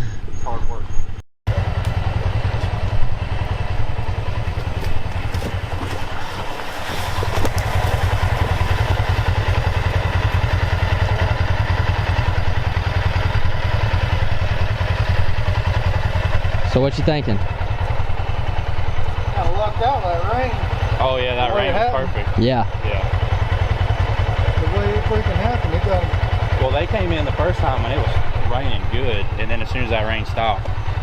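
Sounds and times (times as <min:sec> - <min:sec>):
utility vehicle engine running: 0:01.5 - 0:31.0.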